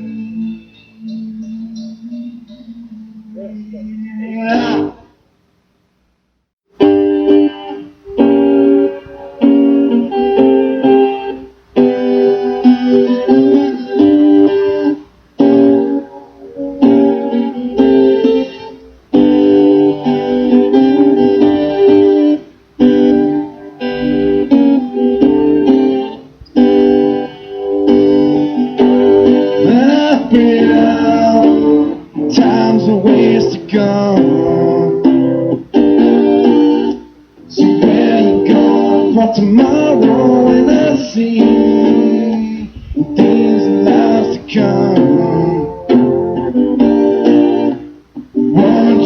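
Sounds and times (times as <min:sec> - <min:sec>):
keyboard chords: 0:00.0 - 0:05.1, 0:06.8 - 0:49.0
guitar chords: 0:00.0 - 0:05.2, 0:06.8 - 0:49.0.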